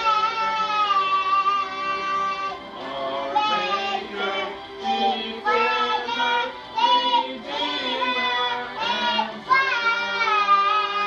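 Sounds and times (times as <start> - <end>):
children and woman singing: 0.0 - 11.0.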